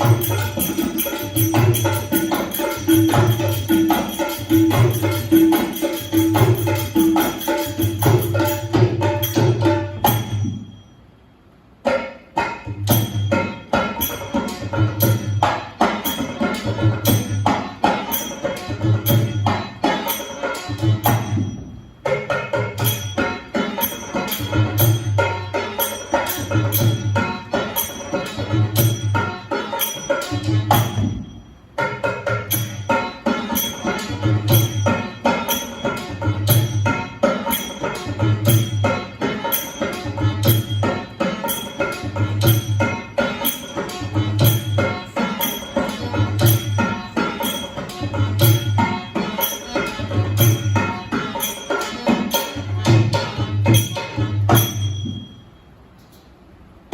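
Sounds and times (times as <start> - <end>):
folk music with drumming: 0.0 - 10.8, 11.5 - 55.9
rapid sharp percussion strikes: 0.0 - 56.9.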